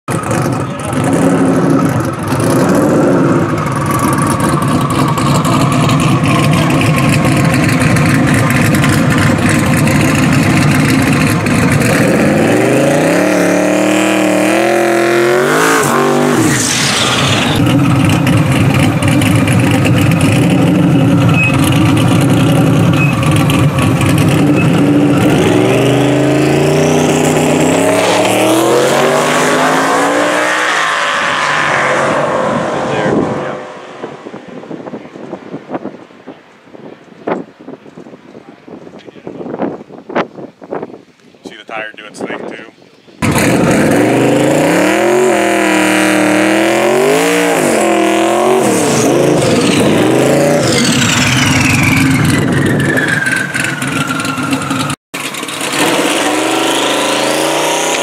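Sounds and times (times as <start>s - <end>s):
car engine revving high: 0.1s - 35.8s, 43.2s - 55.0s, 55.6s - 58.0s.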